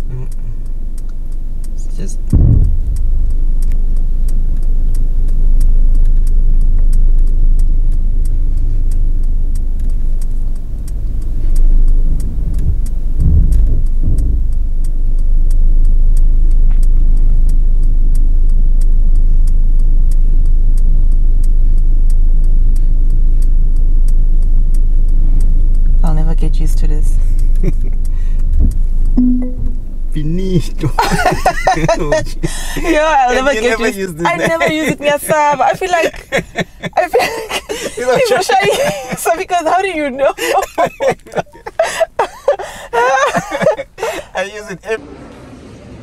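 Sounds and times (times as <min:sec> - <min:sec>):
car interior rumble: 0:00.0 - 0:46.0.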